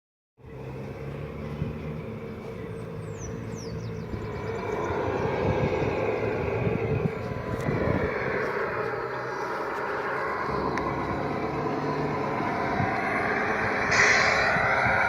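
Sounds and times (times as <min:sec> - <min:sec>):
truck engine under load: 0:00.4 - 0:15.0.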